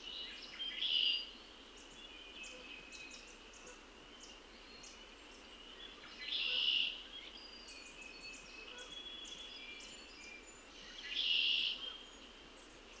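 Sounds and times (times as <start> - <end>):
low outdoor hiss: 0.0 - 13.0.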